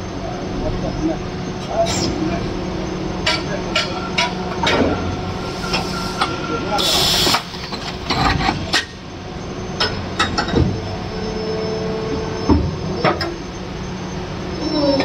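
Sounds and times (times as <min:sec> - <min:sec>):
machine whine: 0:00.0 - 0:15.0
moulding machine hum: 0:00.0 - 0:15.0.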